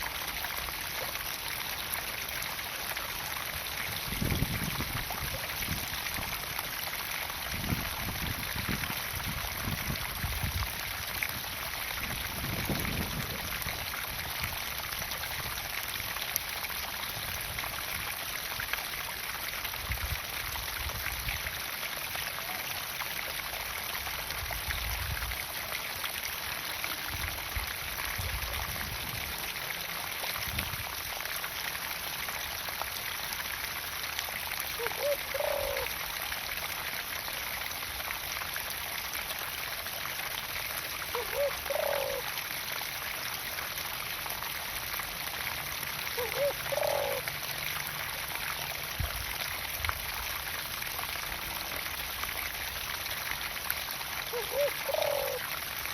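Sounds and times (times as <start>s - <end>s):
water pouring into a pond: 0.0s - 55.9s.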